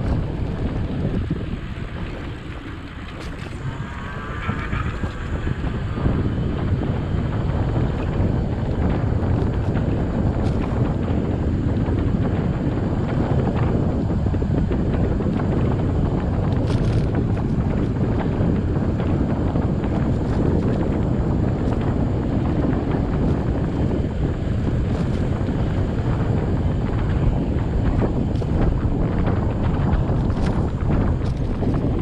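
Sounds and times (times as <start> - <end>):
bike ride rumble: 0.0 - 32.0
wind buffeting microphone: 0.0 - 32.0.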